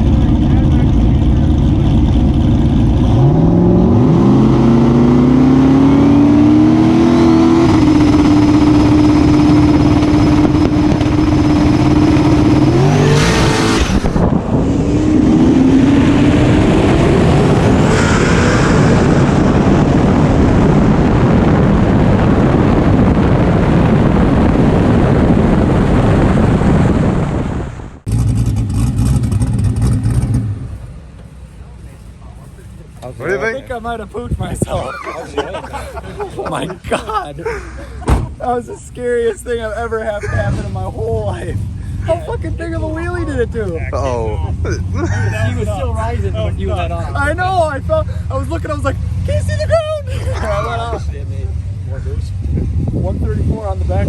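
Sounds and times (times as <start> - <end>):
drag car engine at full throttle: 0.0 - 37.0, 37.6 - 54.0.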